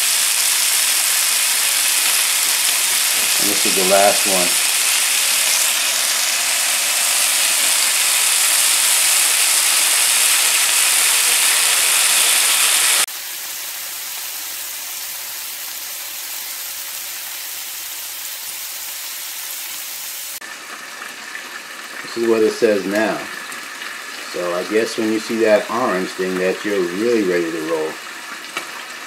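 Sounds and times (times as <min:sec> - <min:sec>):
bacon sizzling on a griddle: 0:00.0 - 0:29.0.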